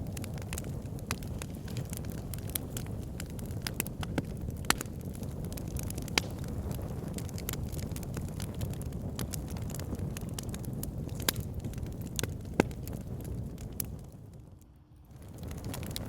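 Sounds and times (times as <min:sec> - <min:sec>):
sharp pops of fire: 0:00.0 - 0:16.0
wood fire crackling: 0:00.0 - 0:16.0.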